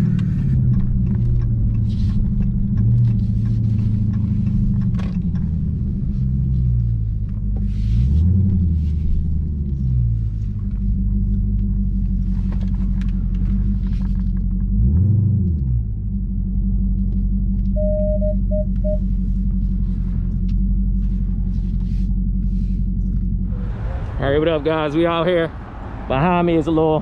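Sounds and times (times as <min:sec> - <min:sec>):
car engine droning: 0:00.0 - 0:27.0.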